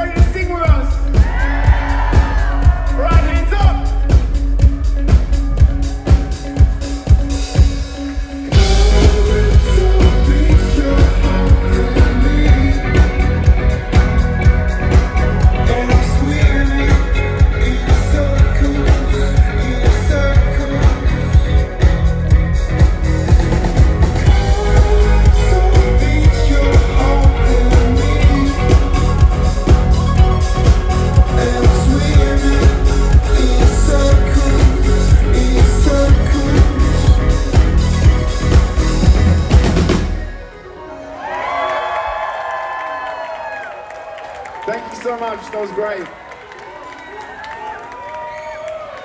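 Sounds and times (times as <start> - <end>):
steady drum beat: 0.0 - 40.3
live dance-rock band: 0.0 - 41.6.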